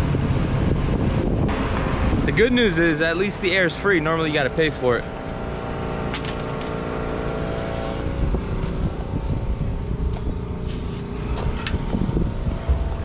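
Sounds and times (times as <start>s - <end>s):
air compressor humming: 1.5s - 13.0s.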